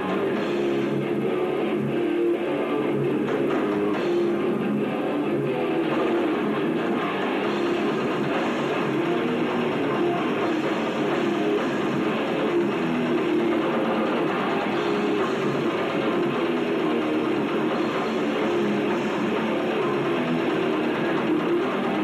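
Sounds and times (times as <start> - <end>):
death metal band playing: 0.0 - 22.0.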